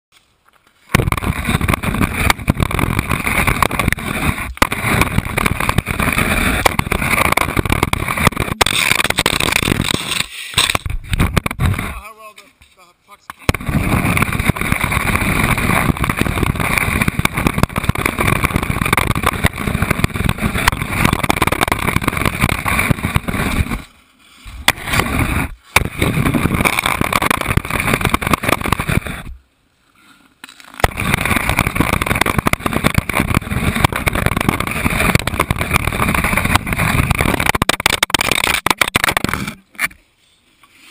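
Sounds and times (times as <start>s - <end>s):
camera scraping across ice: 0.9s - 12.6s, 13.4s - 29.4s, 30.1s - 40.1s.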